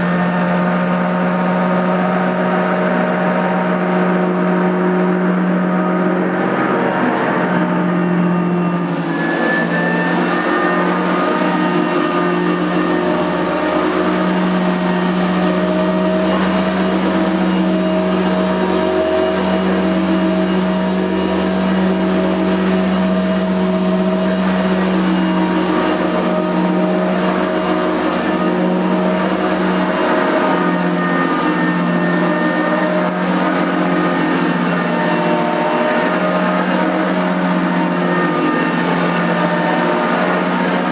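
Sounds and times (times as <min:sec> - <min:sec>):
vacuum cleaner motor humming: 0:00.0 - 0:40.9.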